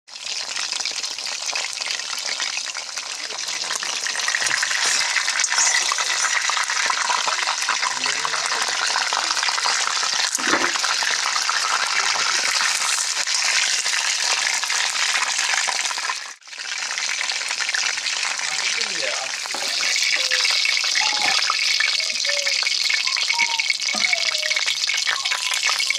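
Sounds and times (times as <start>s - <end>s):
chicken sizzling in hot oil: 0.1s - 25.9s.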